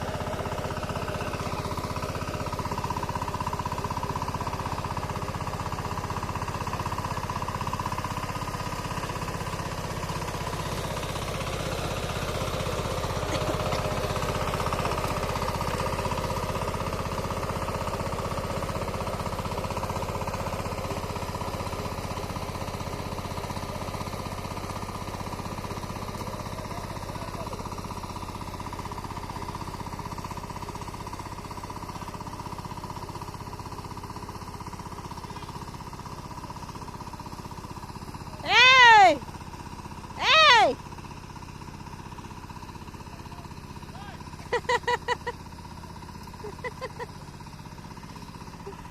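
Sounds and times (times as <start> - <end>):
tractor engine chugging: 0.0 - 48.9.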